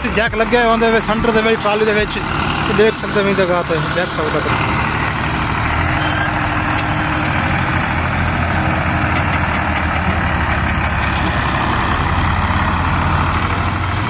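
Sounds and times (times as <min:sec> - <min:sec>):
tractor engine running at low revs: 0:00.0 - 0:14.0.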